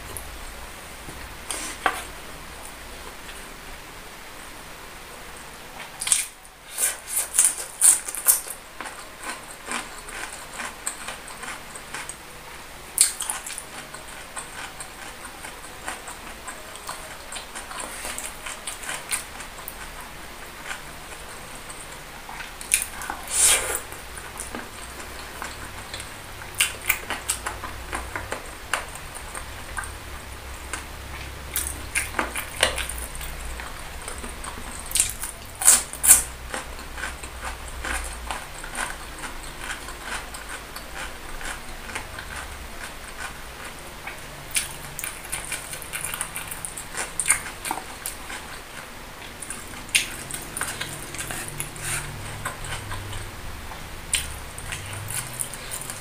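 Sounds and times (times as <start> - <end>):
chewing with mouth clicks: 5.8 - 12.3, 12.9 - 56.0.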